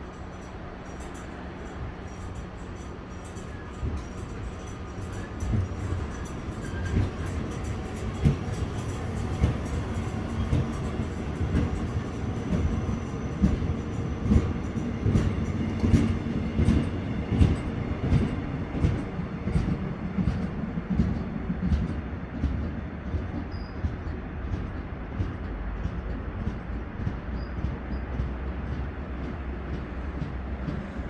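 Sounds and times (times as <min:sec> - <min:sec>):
low train rumble: 0:00.0 - 0:31.0
train wheels clacking over rail joints: 0:00.0 - 0:31.0.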